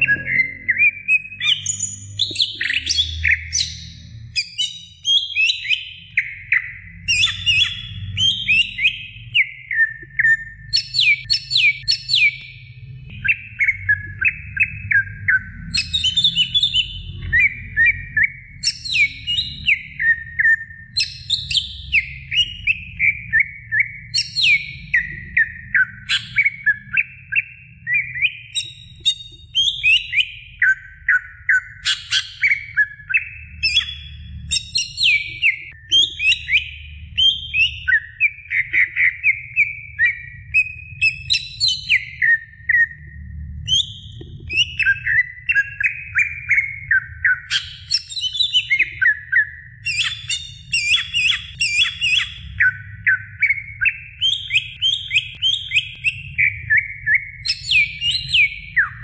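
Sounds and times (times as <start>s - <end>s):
bird singing whistled chirps: 0.0s - 59.0s.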